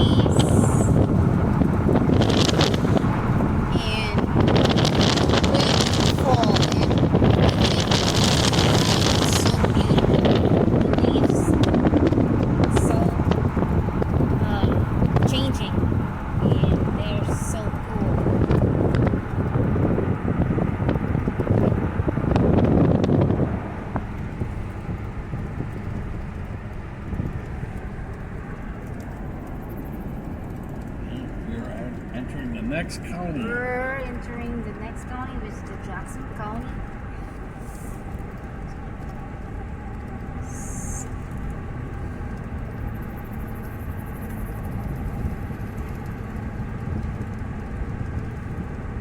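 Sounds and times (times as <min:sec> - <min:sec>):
car road and engine noise: 0:00.0 - 0:49.0.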